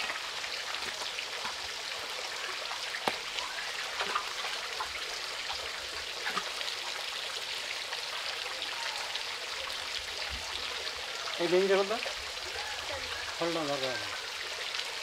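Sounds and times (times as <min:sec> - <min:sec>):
water pattering: 0:00.0 - 0:15.0.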